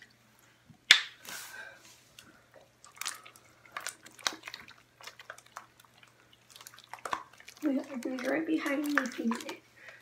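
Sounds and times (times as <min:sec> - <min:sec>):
wet slime squishes: 0:00.8 - 0:10.0.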